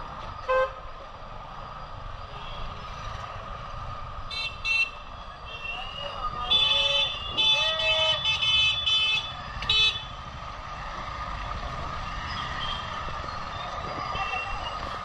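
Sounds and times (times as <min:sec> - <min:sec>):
motorcycle riding in traffic: 0:00.0 - 0:15.0.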